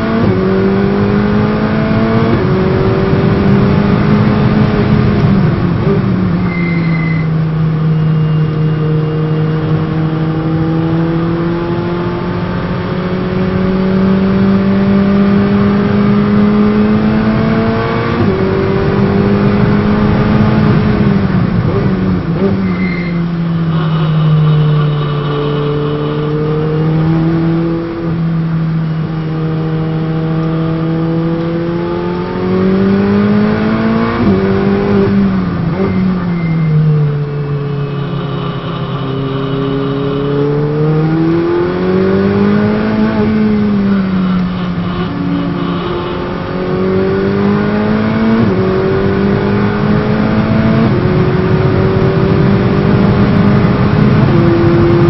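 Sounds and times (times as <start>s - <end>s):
race car engine at high speed: 0.0s - 55.0s.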